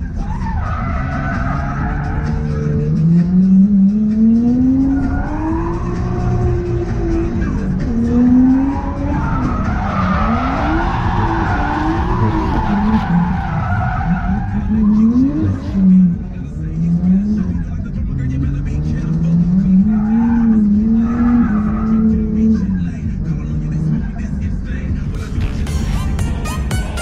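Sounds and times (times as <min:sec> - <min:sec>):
tyres squealing and skidding: 0:00.0 - 0:22.8
car engine revving: 0:00.0 - 0:27.0.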